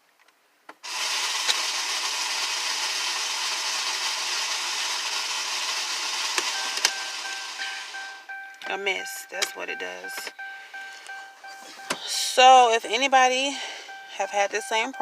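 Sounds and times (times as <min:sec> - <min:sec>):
car starter rasping: 0:00.8 - 0:15.0.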